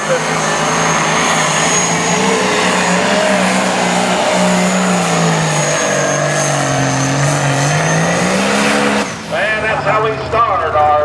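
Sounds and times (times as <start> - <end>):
high turbo whistle: 0.0 - 9.4
diesel tractor engine under load: 0.0 - 11.0.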